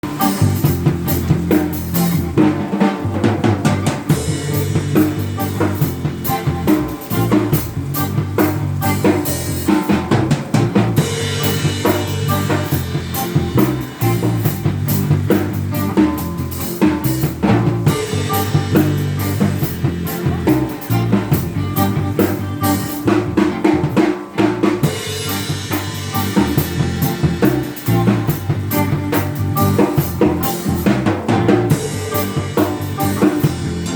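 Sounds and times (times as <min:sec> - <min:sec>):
drum kit playing a beat: 0:00.0 - 0:33.9
sustained bass notes: 0:00.0 - 0:33.9.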